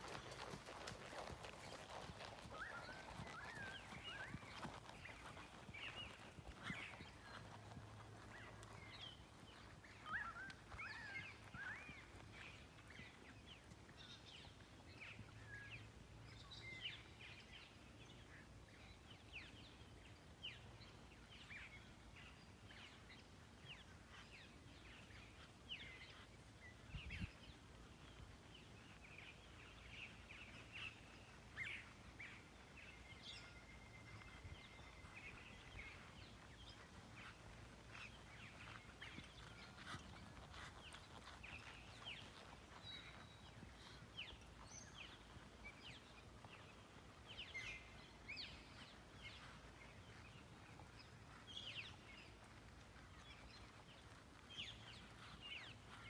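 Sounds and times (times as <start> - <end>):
faint birdsong chirps: 0.1 - 56.0.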